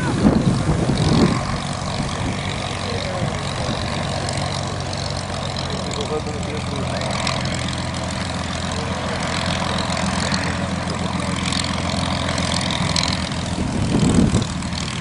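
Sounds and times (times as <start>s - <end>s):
propeller aircraft engine idling: 0.0s - 15.0s.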